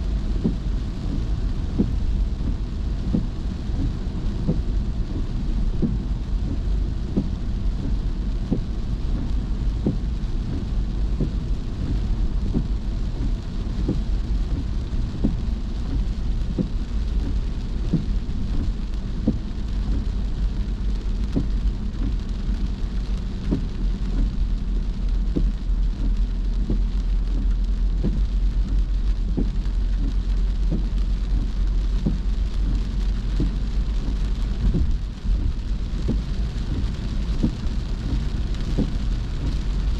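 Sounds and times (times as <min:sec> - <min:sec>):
rain hitting a moving car: 0:00.0 - 0:39.9
steady low rumble: 0:00.0 - 0:39.9.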